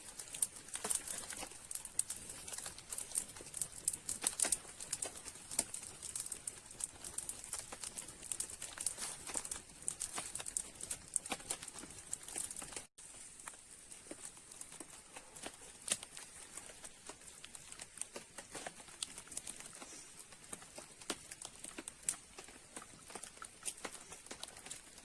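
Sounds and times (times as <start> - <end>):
sharp crackles and clicks: 0.0 - 25.0.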